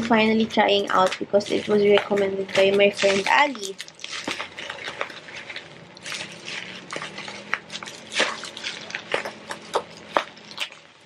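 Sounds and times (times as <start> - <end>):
packaging rustling and crinkling: 0.0 - 11.0
steady low hum: 0.0 - 11.0
paper and plastic snapping: 0.9 - 10.8.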